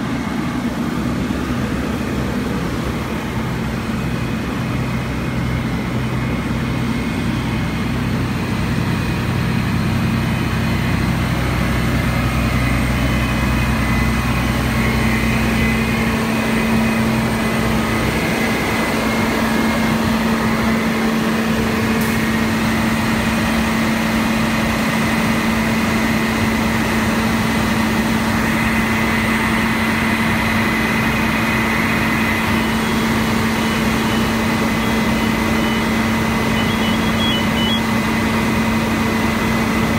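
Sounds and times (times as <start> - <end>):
fire engine hum: 0.0 - 39.9.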